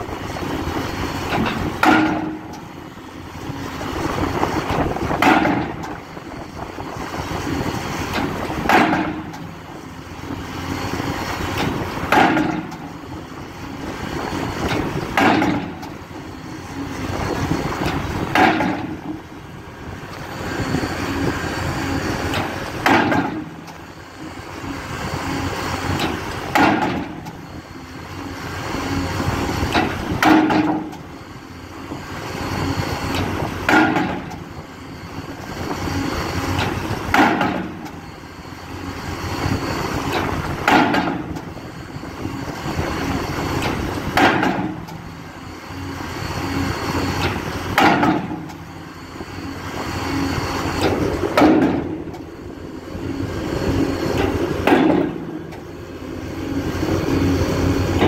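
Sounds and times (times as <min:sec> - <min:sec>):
steady machine noise: 0:00.0 - 0:58.0.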